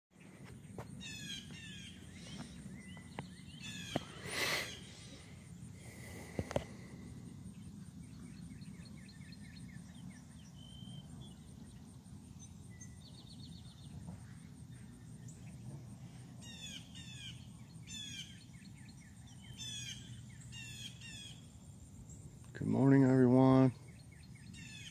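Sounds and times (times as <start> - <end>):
songbirds singing and chirping: 0.2 - 24.9
low background rumble: 0.6 - 24.9.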